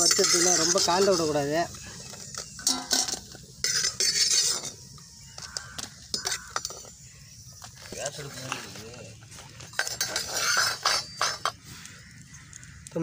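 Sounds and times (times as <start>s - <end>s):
metal skimmer clinking and scraping: 0.0s - 7.1s, 7.7s - 11.6s.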